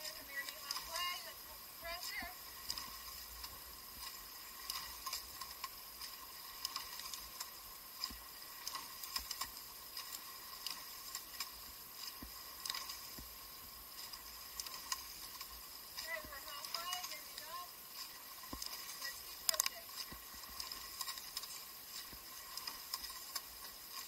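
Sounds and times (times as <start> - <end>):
low hiss: 0.0 - 24.0
oars clicking and knocking: 0.0 - 24.0.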